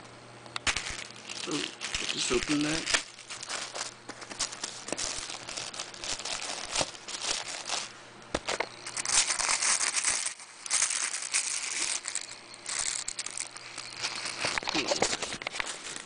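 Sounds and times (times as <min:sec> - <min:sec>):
plastic packaging crinkling: 0:00.6 - 0:16.0.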